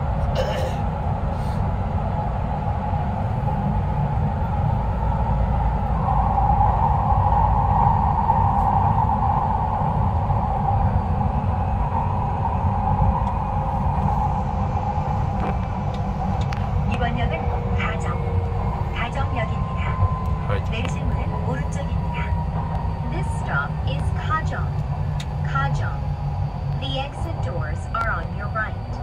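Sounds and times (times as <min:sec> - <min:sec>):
subway train rumbling in tunnel: 0:00.0 - 0:29.0.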